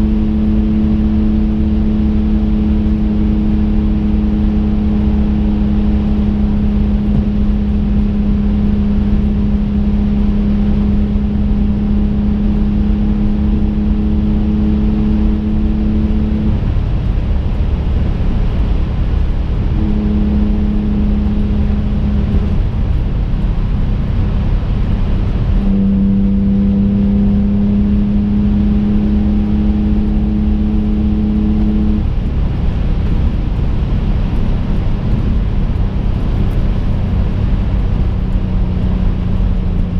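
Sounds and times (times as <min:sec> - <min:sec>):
car engine drone: 0:00.0 - 0:39.9
low road rumble: 0:00.0 - 0:39.9.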